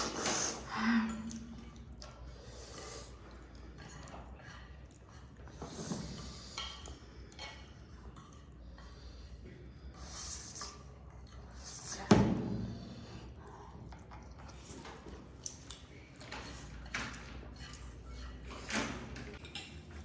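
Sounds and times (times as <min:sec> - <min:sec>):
quiet eating sounds: 0:00.0 - 0:20.0.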